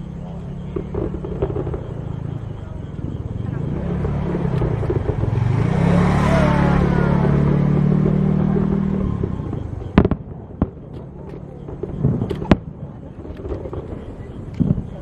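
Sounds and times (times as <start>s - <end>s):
firework whistling glides: 0.0s - 15.0s
firework cracking bangs: 0.6s - 5.9s, 6.9s - 15.0s.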